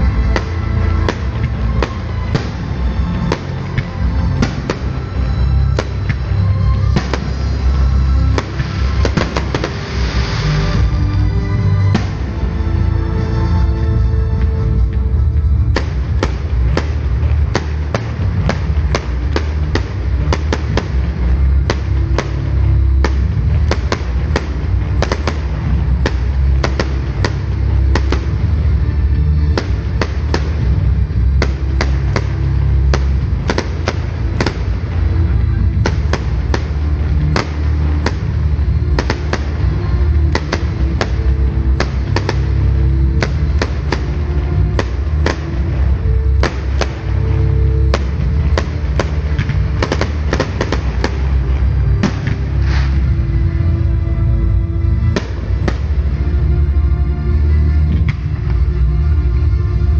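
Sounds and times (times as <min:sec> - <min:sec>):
fireworks bangs and cracks: 0:00.0 - 0:59.0
loud music with heavy bass: 0:00.0 - 0:59.9.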